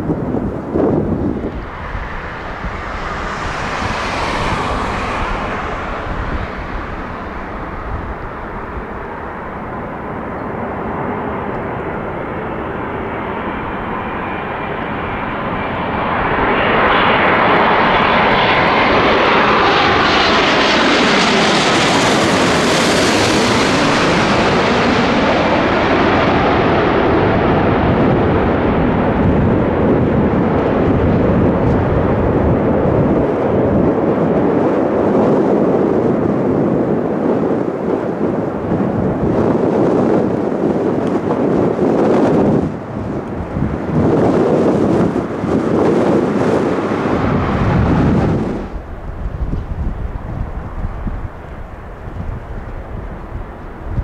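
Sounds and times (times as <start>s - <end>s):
airliner passing overhead: 0.0s - 54.0s.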